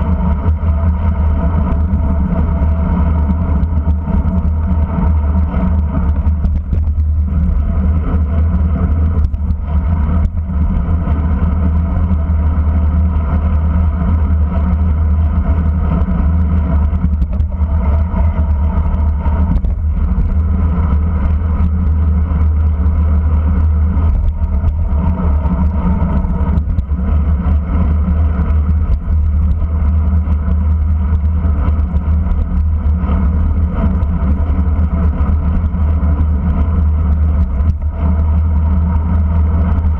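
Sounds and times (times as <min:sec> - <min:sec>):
bicycle road rumble: 0:00.0 - 0:39.9
wind rush: 0:00.0 - 0:39.9.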